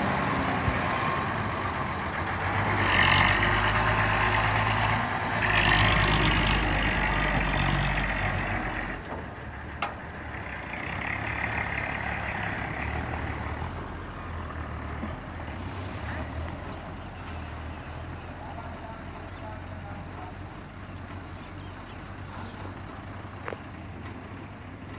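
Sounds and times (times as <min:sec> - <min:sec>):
diesel truck engines running: 0:00.0 - 0:24.9.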